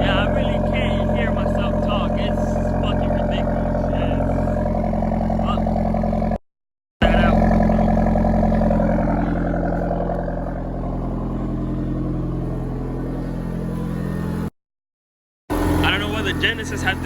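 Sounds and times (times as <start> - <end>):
car engine idling: 0.0 - 6.4, 7.0 - 14.5, 15.5 - 17.0.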